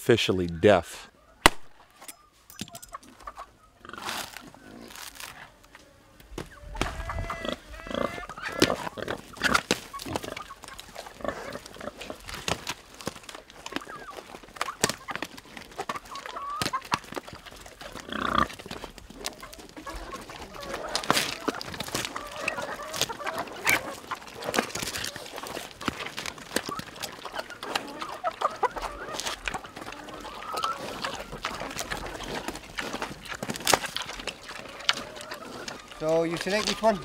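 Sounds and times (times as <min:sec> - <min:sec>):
chickens clucking: 0:00.2 - 0:37.0
pigs crunching coconut shells: 0:02.7 - 0:37.0
pigs grunting: 0:03.8 - 0:05.0, 0:06.8 - 0:12.5, 0:13.6 - 0:37.0.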